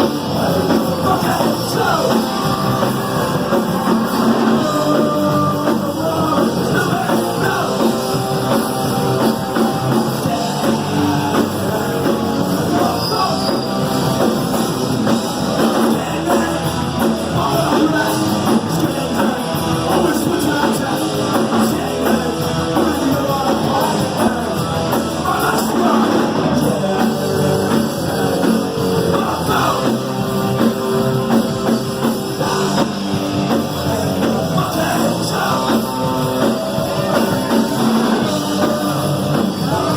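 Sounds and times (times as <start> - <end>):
distorted electric guitars: 0.0 - 39.9
drum kit: 0.0 - 39.9
person singing: 0.0 - 39.9.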